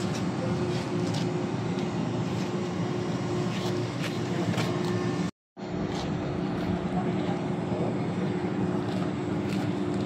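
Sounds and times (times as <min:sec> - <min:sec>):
crane machinery droning: 0:00.0 - 0:10.0.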